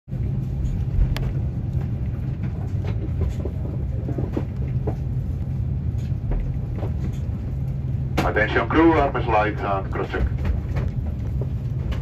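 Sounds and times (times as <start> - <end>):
aircraft cabin drone: 0.1 - 12.0.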